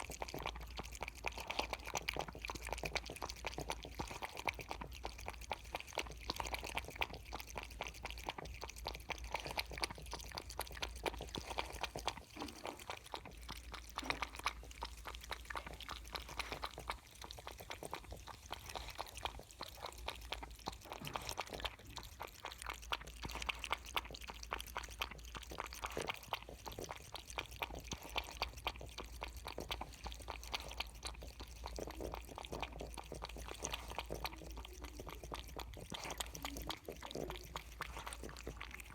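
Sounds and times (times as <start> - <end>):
kitten lapping milk: 0.0 - 38.9.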